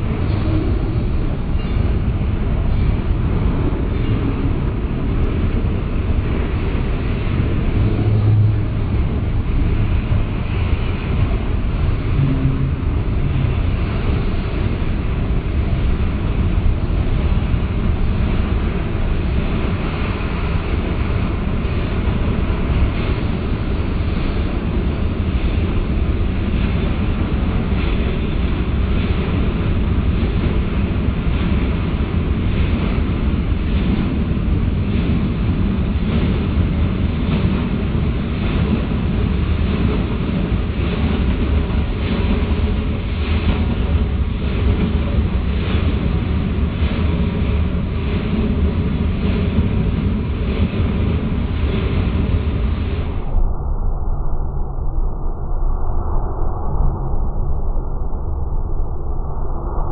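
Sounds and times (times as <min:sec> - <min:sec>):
freight cars rolling on rails: 0:00.0 - 0:53.3.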